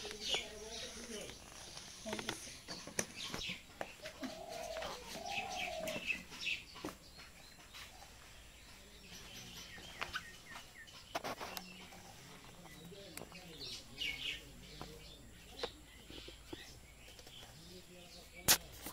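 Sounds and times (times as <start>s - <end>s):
longer lower bird calls: 0.0s - 18.7s
birds chirping: 0.0s - 18.9s.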